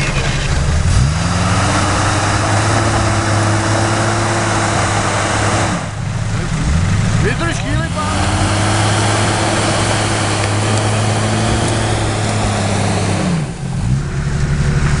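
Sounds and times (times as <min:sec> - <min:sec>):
different engine note: 0:00.0 - 0:15.0
engine revving through mud: 0:00.0 - 0:15.0.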